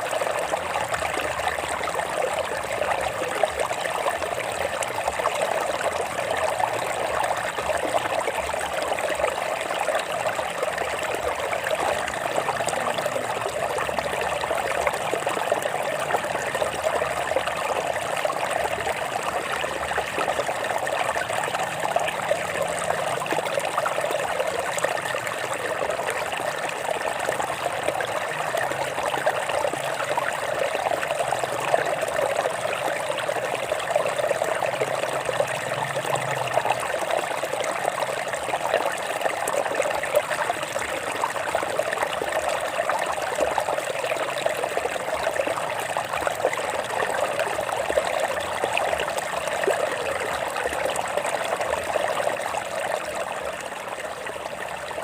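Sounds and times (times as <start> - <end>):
stream water flowing over rocks: 0.0 - 55.0.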